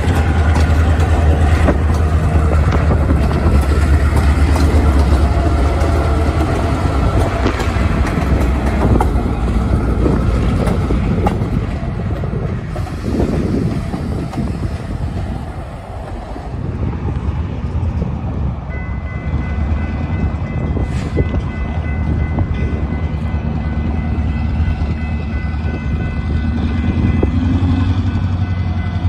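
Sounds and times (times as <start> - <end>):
diesel locomotive engine rumbling: 0.0 - 29.0.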